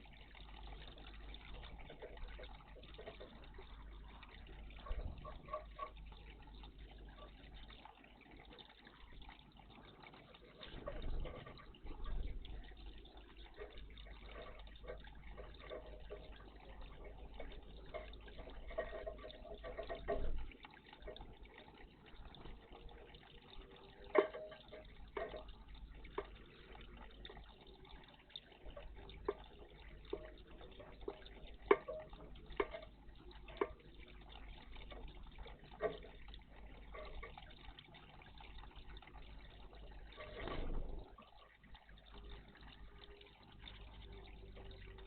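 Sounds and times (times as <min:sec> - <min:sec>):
water splashing in bird bath: 0:00.0 - 0:45.0.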